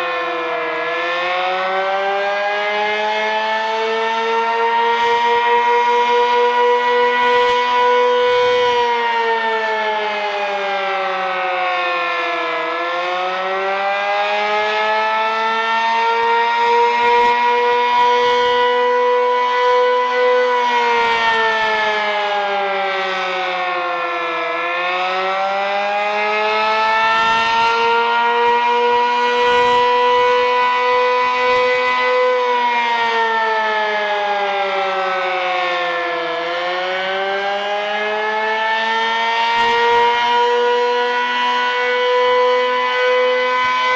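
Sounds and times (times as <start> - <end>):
warning siren wailing: 0.0 - 43.9.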